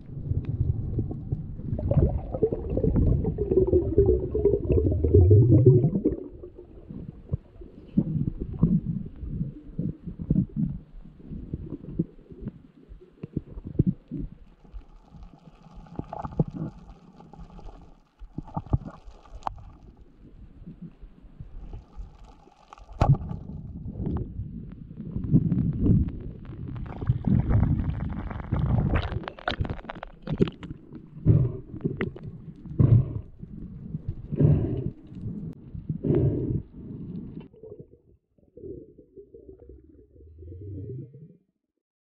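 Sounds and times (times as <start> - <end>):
underwater knocks and clicks: 0.0 - 19.8, 20.6 - 36.0
muffled underwater rumbling: 0.0 - 41.6.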